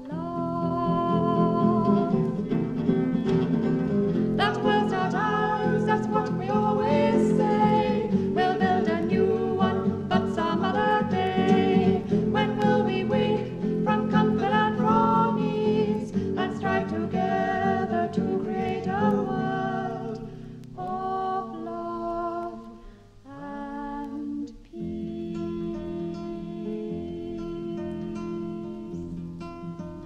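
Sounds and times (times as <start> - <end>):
group singing vocal harmony: 0.0 - 2.6, 4.1 - 29.2
acoustic guitar: 0.0 - 30.0.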